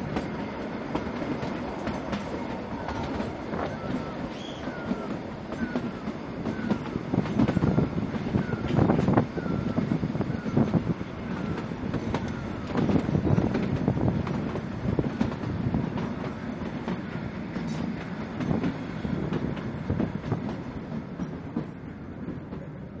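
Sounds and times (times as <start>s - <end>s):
train carriage knocking and rattling: 0.0s - 23.0s
train wheels rumbling on rail: 0.0s - 23.0s.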